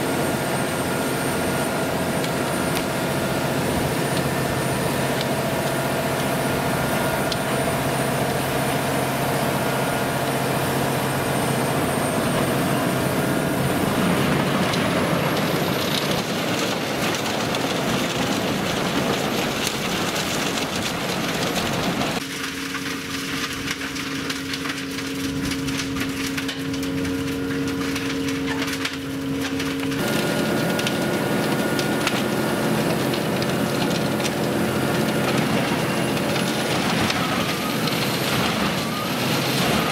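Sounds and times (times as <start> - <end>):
tractor engine drone: 0.0 - 39.9
wood chipper cracking wood: 0.0 - 39.9.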